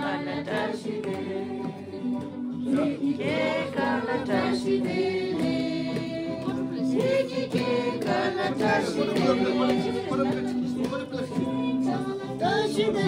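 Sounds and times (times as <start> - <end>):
voices singing long held notes: 0.0 - 13.0.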